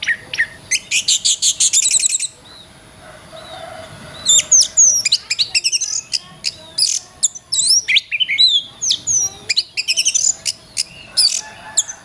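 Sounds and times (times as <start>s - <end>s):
songbird whistling and trilling: 0.0s - 2.6s, 4.2s - 12.0s.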